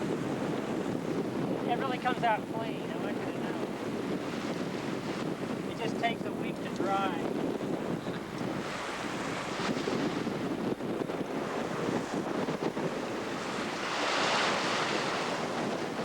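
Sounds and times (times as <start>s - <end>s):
waves rushing around boat: 0.0s - 16.0s
wind buffeting microphone: 0.0s - 16.0s.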